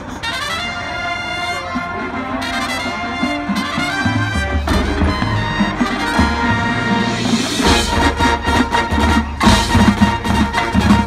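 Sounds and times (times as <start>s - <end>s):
brass sustained chords: 0.2s - 11.0s.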